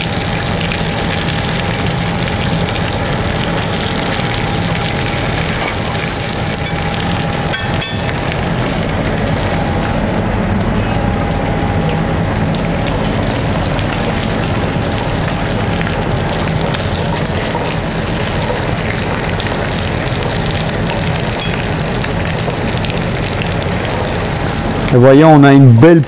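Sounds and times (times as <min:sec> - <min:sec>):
meat sizzling in butter: 0:00.0 - 0:09.0, 0:12.2 - 0:24.9.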